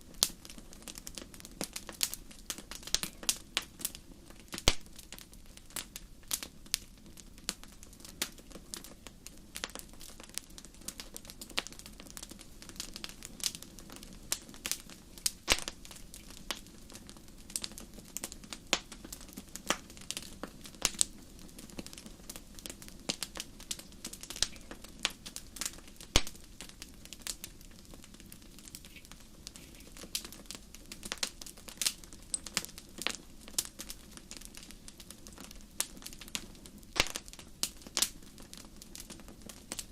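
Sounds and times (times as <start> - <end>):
low rush of flames: 0.0 - 39.9
wood fire pops and snaps: 0.1 - 39.9.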